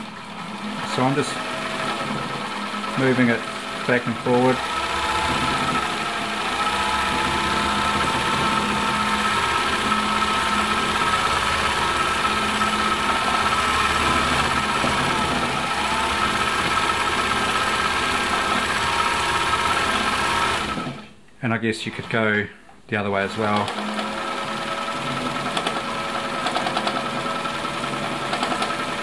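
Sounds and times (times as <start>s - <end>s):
sewing machine running: 0.0s - 21.1s, 23.2s - 29.0s.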